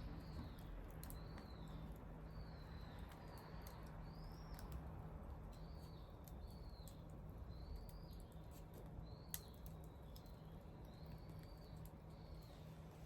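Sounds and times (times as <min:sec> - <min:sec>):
wood fire crackling and popping: 0:00.0 - 0:01.8, 0:02.9 - 0:12.5.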